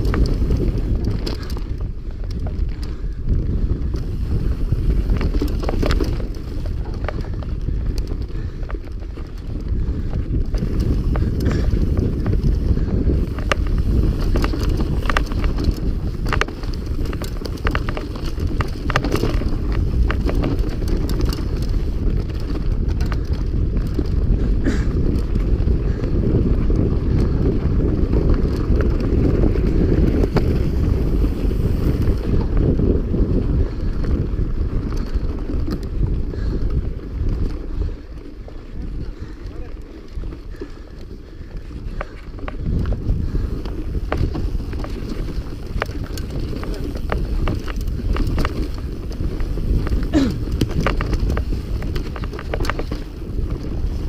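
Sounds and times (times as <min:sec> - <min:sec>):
bike rattling and knocking: 0:00.0 - 0:54.0
wind buffeting microphone: 0:00.0 - 0:54.0.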